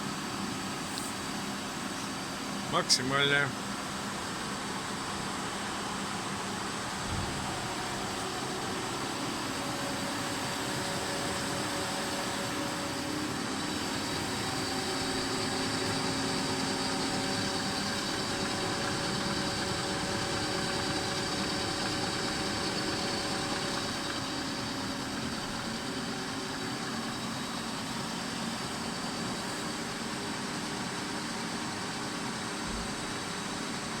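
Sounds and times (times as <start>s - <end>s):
planer machine humming and whining: 4.8s - 34.0s.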